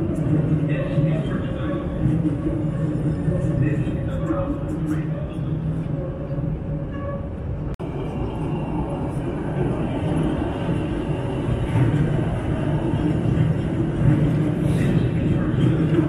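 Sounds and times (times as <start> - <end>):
metro train on rails: 0.0 - 16.0.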